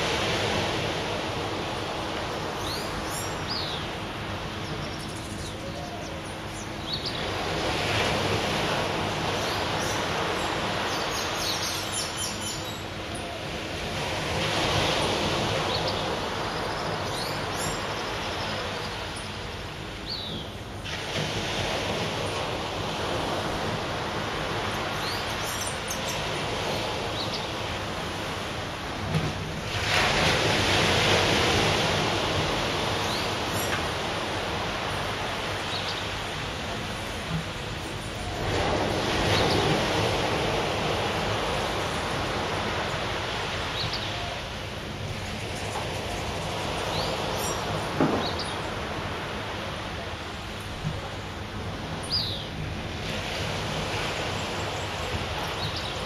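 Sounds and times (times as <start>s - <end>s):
surf breaking on beach: 0.0s - 4.7s, 6.5s - 19.9s, 20.6s - 56.0s.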